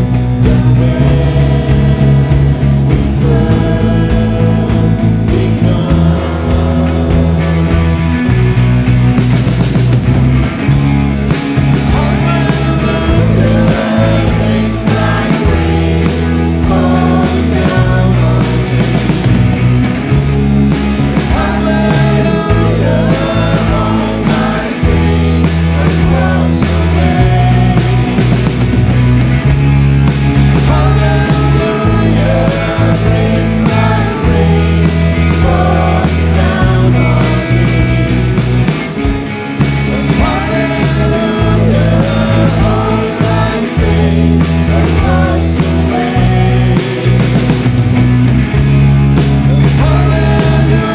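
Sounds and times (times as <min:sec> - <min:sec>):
voices singing: 0:00.0 - 0:09.9, 0:11.2 - 0:50.9
bass guitar: 0:00.0 - 0:50.9
drums: 0:00.0 - 0:50.9
electric and acoustic guitars: 0:00.0 - 0:50.9.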